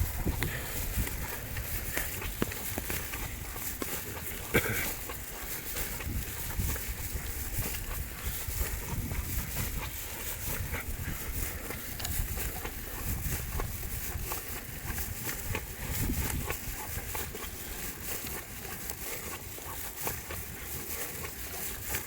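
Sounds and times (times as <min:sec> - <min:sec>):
wind gusting across microphone: 0:00.0 - 0:17.8
light scattered ticks: 0:00.4 - 0:22.0.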